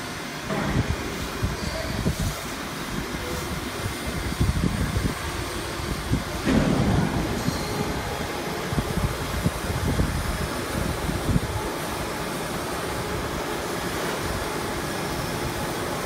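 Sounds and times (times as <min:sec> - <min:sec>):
machinery rumbling: 0:03.1 - 0:16.0.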